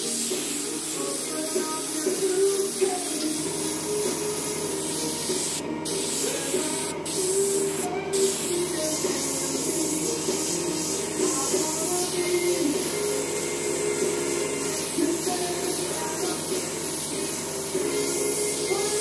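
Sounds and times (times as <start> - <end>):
airbrush spraying hiss: 0.0 - 19.0.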